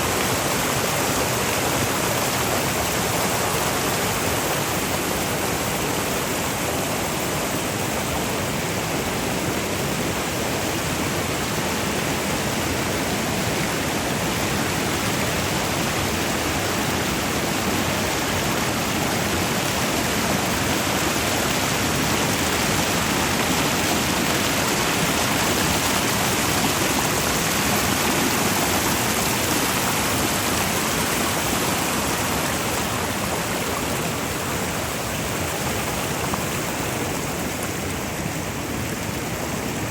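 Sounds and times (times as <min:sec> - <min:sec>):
water rushing over waterfalls: 0:00.0 - 0:39.9.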